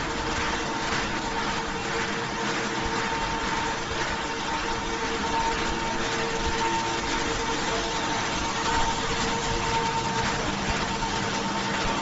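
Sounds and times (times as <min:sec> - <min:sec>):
production line machinery running: 0:00.0 - 0:12.0.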